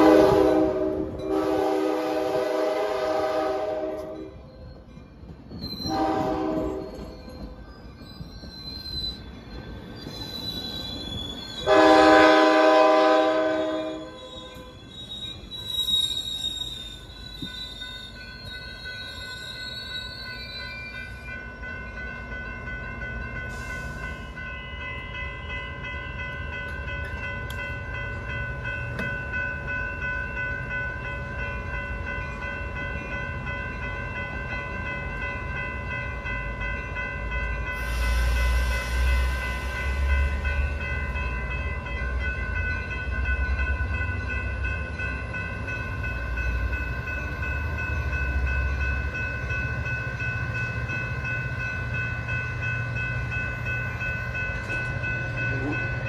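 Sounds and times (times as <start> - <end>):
train high whine and rumble: 0.0 - 56.0
train wheel squeal: 3.0 - 25.7, 31.8 - 56.0.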